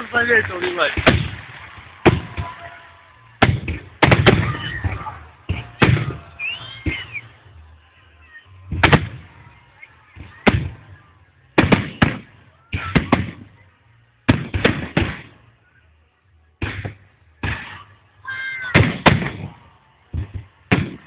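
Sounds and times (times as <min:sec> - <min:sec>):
fireworks bursting: 0:00.0 - 0:07.8, 0:08.5 - 0:13.6, 0:14.2 - 0:15.6, 0:16.6 - 0:21.0.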